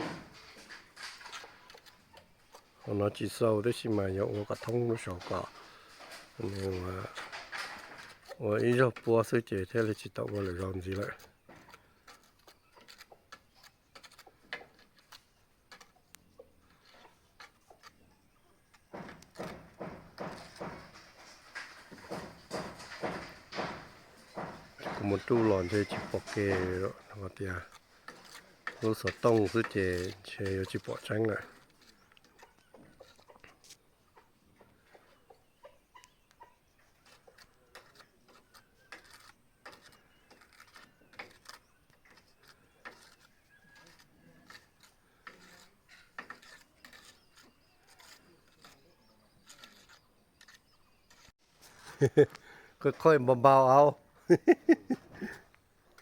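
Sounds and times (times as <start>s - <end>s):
rough knocks and scrapes: 0.0s - 33.8s, 36.3s - 56.0s.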